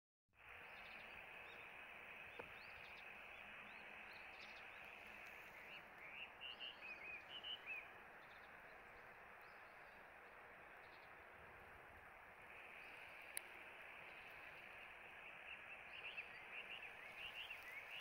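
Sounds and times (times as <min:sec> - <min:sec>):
outdoor hiss: 0:00.4 - 0:18.0
small birds chirping: 0:00.4 - 0:18.0.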